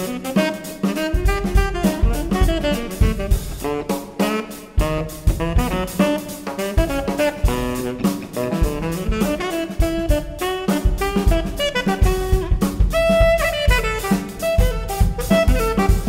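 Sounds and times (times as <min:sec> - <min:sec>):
horn line: 0:00.0 - 0:16.0
jazz band playing: 0:00.0 - 0:16.0.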